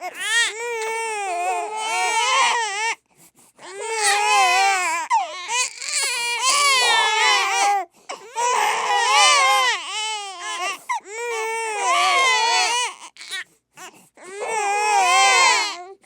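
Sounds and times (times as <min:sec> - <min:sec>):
babies crying: 0:00.1 - 0:02.9, 0:03.8 - 0:13.4, 0:14.3 - 0:15.8.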